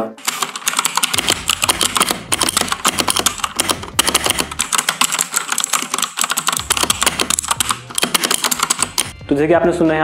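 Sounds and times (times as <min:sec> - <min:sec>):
mechanical keyboard typing: 0:00.2 - 0:09.1.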